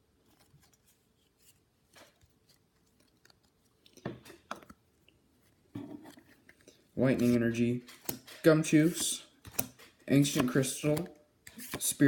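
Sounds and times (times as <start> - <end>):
trading cards rustling: 0.2 - 4.8, 6.1 - 12.0.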